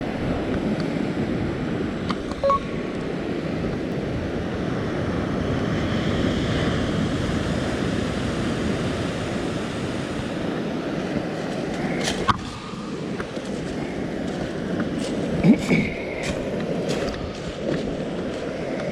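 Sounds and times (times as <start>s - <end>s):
ocean surf breaking: 0.0s - 18.9s.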